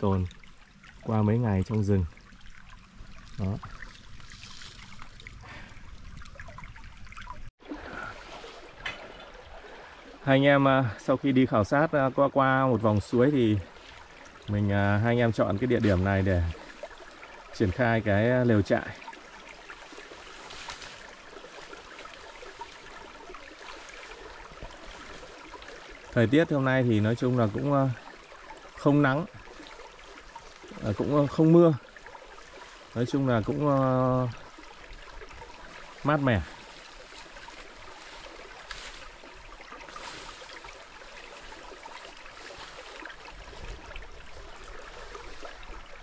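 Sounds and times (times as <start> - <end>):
stream trickling: 0.0 - 46.0.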